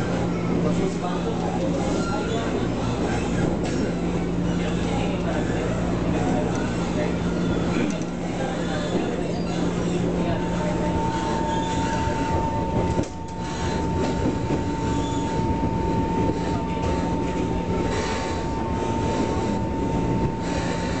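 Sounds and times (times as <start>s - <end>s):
constant high whine: 0.0s - 21.0s
train wheels rumbling: 0.0s - 21.0s.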